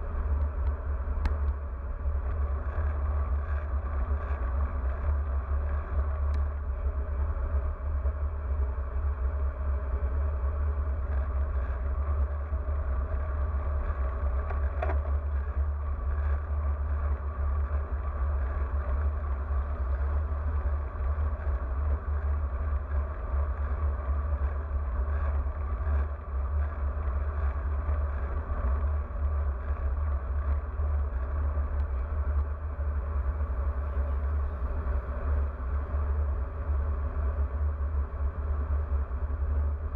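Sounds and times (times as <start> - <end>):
bicycle tyre and road noise: 0.0 - 39.9.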